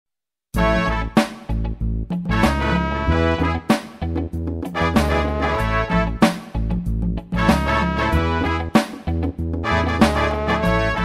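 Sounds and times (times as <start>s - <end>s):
upbeat music with brass and bass: 0.5s - 11.0s.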